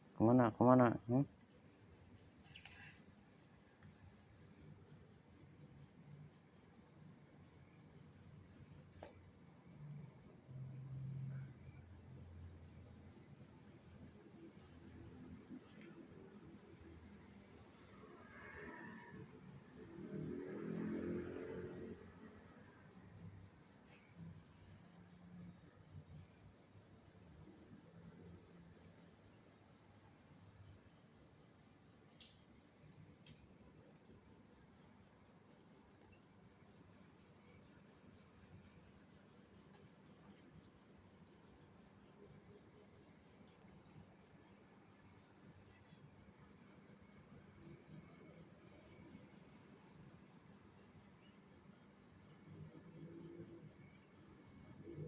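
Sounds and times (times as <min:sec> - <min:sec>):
cricket trilling: 0:00.0 - 0:55.0.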